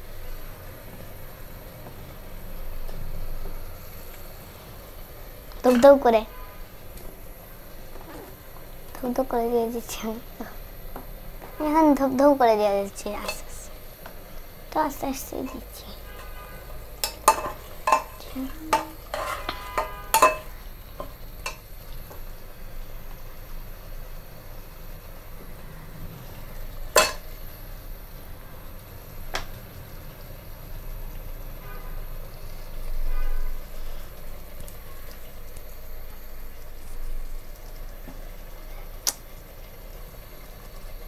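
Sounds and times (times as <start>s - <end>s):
frying hiss: 0.0s - 41.0s.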